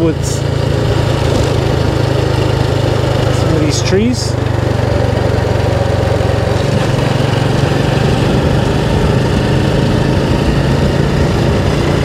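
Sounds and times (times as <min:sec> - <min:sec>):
motorbike engine running: 0:00.0 - 0:12.0
road and wind noise: 0:00.0 - 0:12.0.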